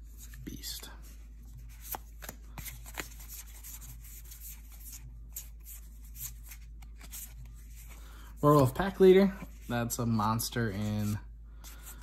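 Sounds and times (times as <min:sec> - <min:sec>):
cards rustling: 0:00.1 - 0:12.0.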